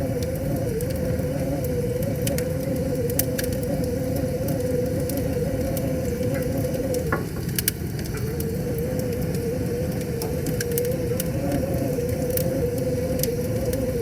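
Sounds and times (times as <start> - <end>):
wavering hum: 0.0 - 14.0
wood fire crackling and popping: 0.0 - 14.0.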